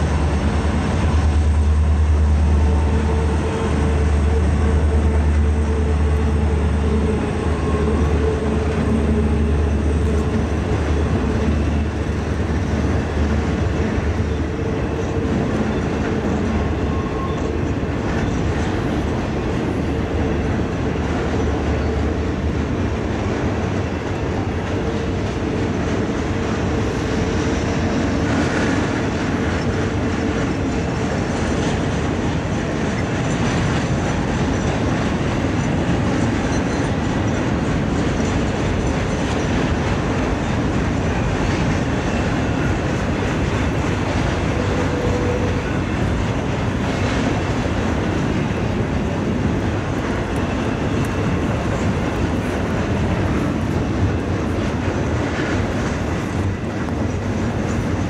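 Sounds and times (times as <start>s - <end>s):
train rumbling over bridge: 0.0s - 58.0s.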